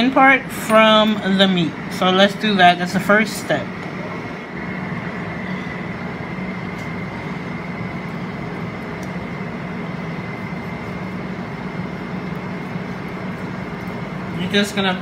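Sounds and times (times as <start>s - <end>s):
mechanical hum and whir: 0.0s - 15.0s.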